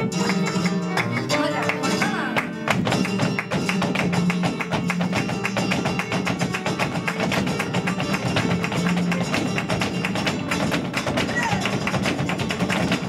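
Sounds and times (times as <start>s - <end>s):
flamenco guitar playing: 0.0s - 13.0s
rapid percussive strikes: 0.0s - 13.0s.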